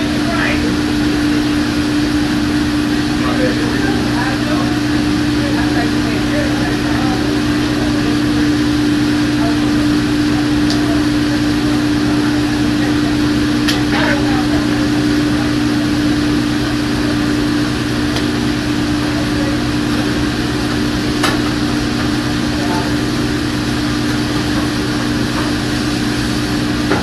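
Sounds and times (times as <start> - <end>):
kitchen machinery hum: 0.0 - 27.0.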